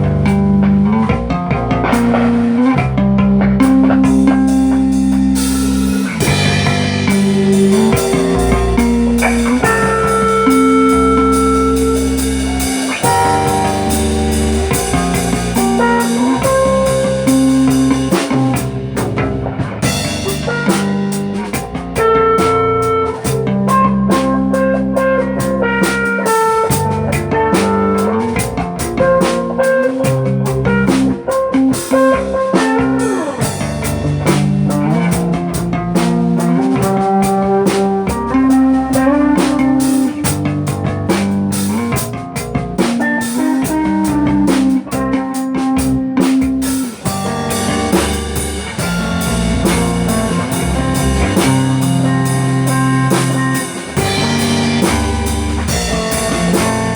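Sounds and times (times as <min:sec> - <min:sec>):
blues-rock band playing: 0:00.0 - 0:56.9.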